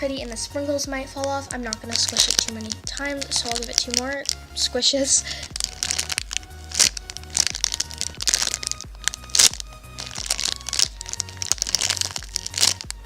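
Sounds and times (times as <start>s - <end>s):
music with bass and beat: 0.0s - 13.0s.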